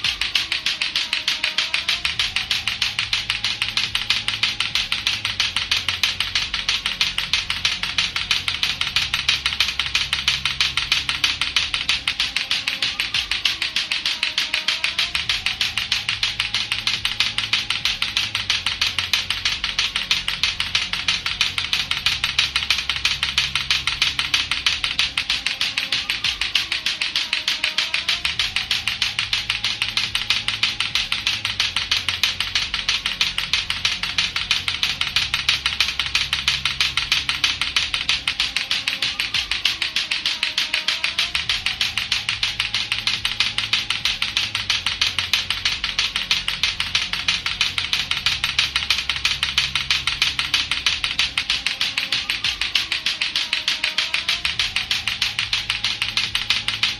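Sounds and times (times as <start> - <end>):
plastic clacker balls clacking: 0.0 - 56.9
quiet backing music: 0.0 - 56.9.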